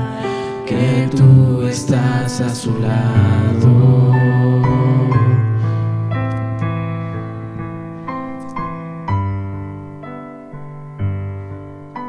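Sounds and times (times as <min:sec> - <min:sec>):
heavy low piano notes: 0:00.0 - 0:12.0
piano chords: 0:00.0 - 0:12.0.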